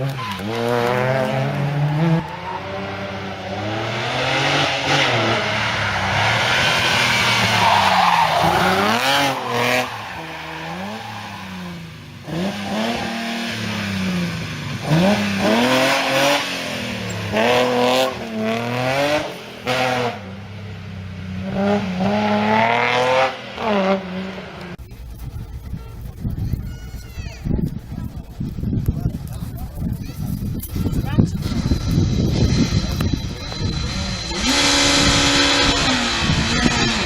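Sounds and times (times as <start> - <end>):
rally car engine revving: 0.0 - 26.6, 30.3 - 37.0.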